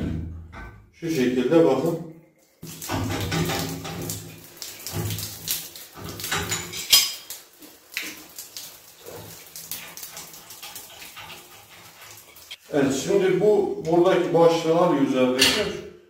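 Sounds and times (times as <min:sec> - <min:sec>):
water spattering and dripping: 0:01.0 - 0:15.8.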